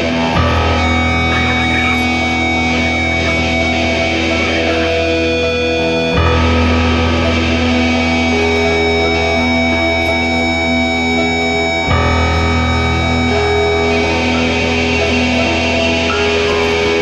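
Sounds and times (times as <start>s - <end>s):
electric guitar chords: 0.0s - 17.0s
live band playing: 0.0s - 17.0s.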